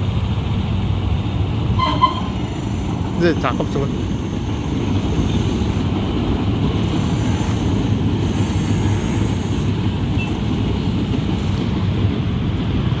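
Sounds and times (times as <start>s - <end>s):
train rumbling by: 0.0s - 13.0s.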